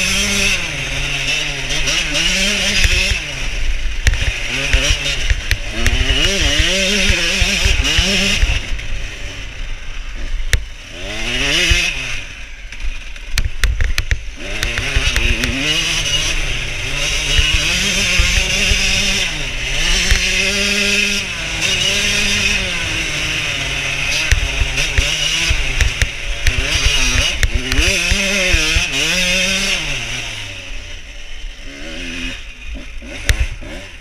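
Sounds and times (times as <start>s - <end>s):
two-stroke engine revving hard: 0.0s - 34.0s.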